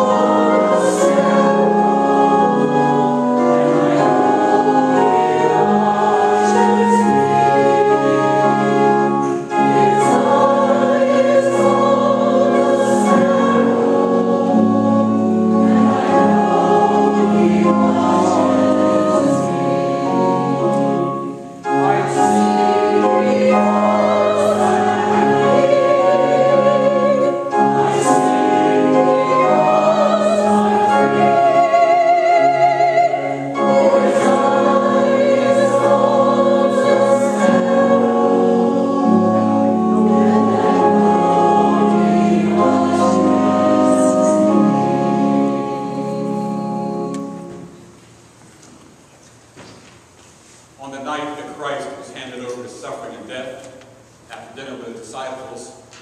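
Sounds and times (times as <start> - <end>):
group singing a hymn: 0.0 - 47.8.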